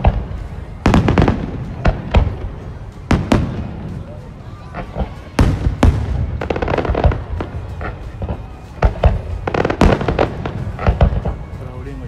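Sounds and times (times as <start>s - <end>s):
firework bangs: 0.0s - 11.8s
firework crackling: 0.0s - 12.0s.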